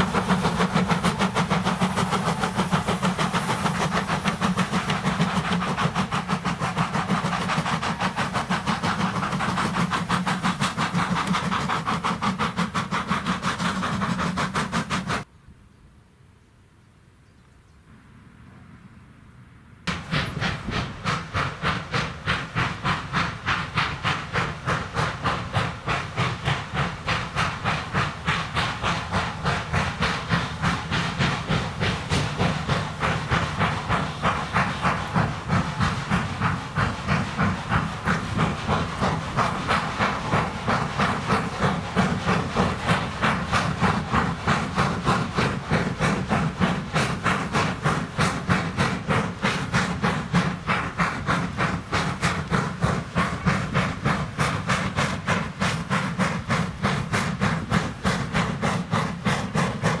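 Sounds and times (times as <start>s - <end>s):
steam locomotive chuffing: 0.0s - 15.3s, 19.9s - 60.0s.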